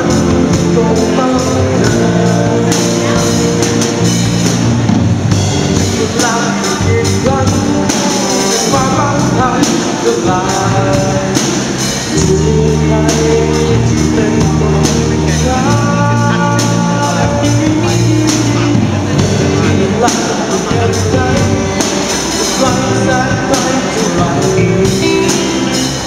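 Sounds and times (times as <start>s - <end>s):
electric guitar: 0.0s - 26.0s
steady beat: 0.0s - 26.0s
young man singing: 0.0s - 26.0s.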